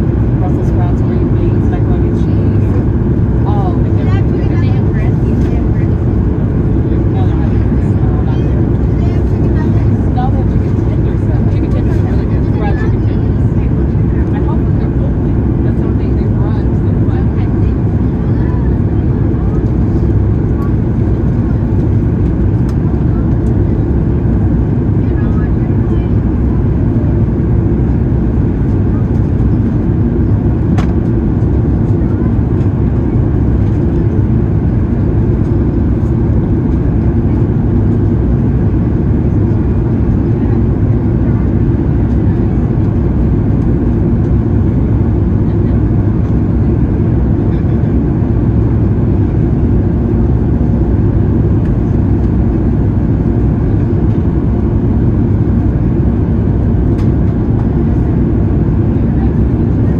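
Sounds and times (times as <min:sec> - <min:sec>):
airplane cabin noise: 0:00.0 - 0:59.9.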